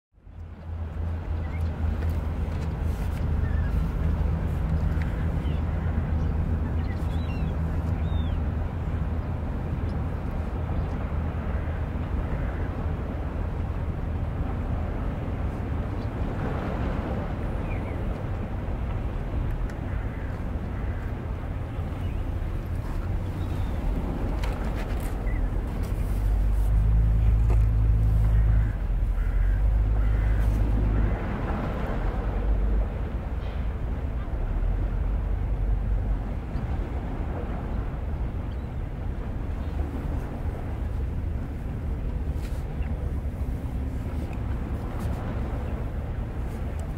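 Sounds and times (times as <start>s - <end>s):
low engine hum: 0.1s - 46.9s
city noise: 0.2s - 46.9s.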